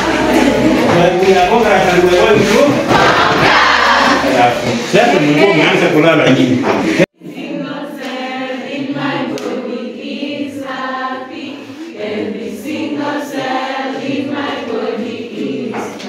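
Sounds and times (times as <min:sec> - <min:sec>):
girls' choir singing: 0:00.0 - 0:06.0, 0:06.6 - 0:16.0.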